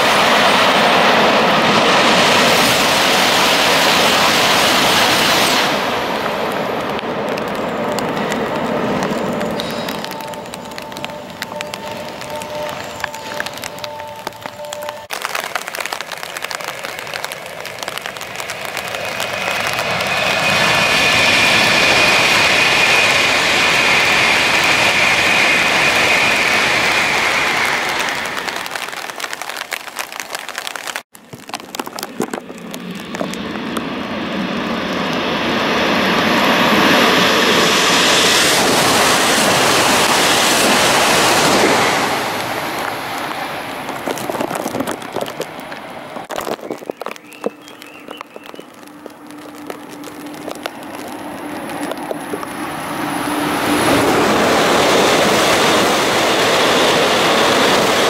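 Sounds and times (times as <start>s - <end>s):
high-speed train passing: 0.0s - 30.2s, 32.6s - 46.3s, 47.5s - 58.0s.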